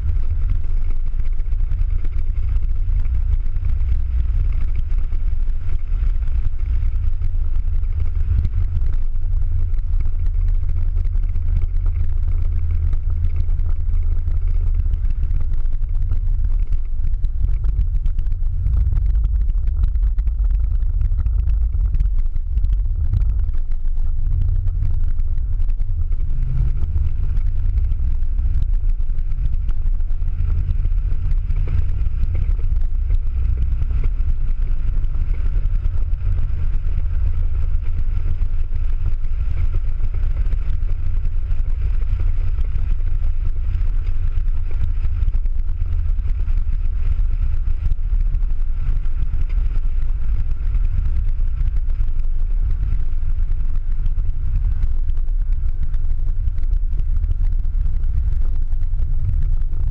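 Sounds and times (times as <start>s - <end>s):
car engine rumble from cabin: 0.0s - 59.9s.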